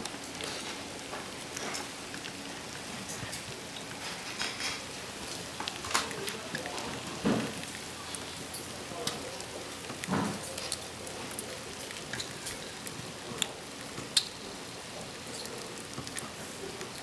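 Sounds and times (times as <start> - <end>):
charcoal fire crackling: 0.0 - 17.0.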